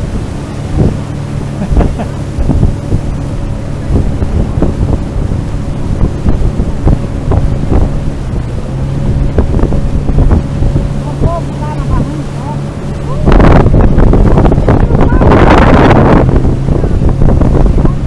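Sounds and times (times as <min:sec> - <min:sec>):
outboard motor running: 0:00.0 - 0:18.0
water rushing past hull: 0:00.0 - 0:18.0
wind buffeting microphone: 0:00.0 - 0:18.0.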